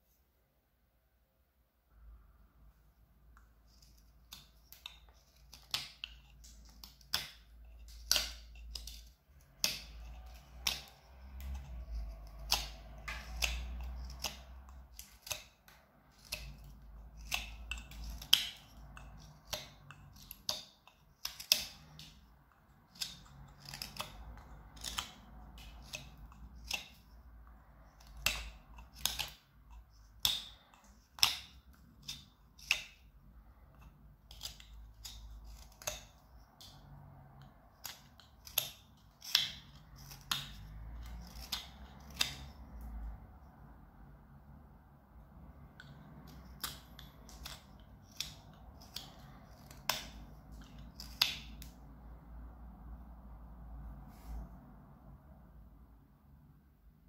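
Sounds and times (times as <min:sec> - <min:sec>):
knife carving wood: 0:03.3 - 0:43.7, 0:45.3 - 0:52.2.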